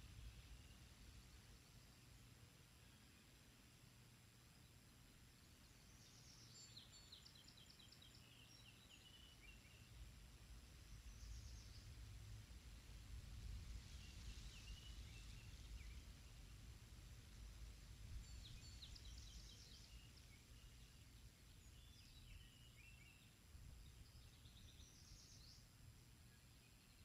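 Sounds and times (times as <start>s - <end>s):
faint bird song: 0.0s - 27.0s.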